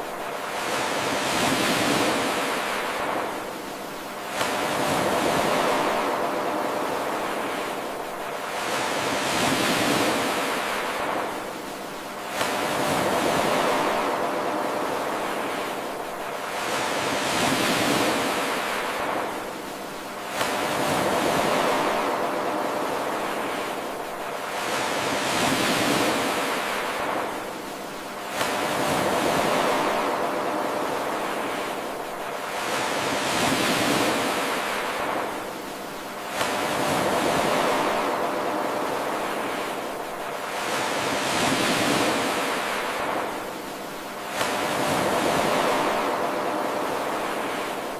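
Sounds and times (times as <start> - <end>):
ocean waves washing in: 0.0 - 47.9.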